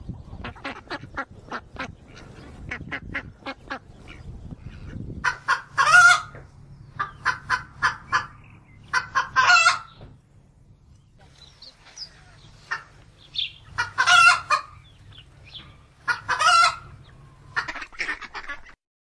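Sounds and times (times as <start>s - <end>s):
poultry quacking: 0.3s - 10.0s, 11.7s - 18.8s.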